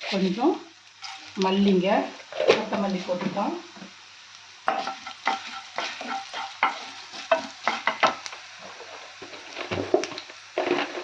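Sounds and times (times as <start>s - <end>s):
spatula scraping a pan: 0.0s - 3.1s, 4.7s - 11.0s
seeds frying in oil: 0.0s - 11.0s.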